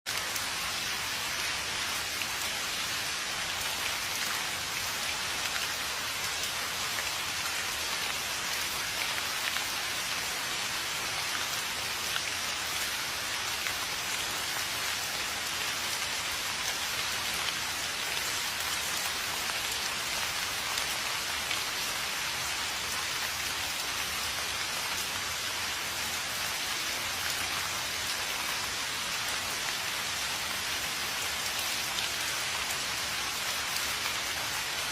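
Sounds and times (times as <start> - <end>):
steady rain hiss: 0.1 - 34.9.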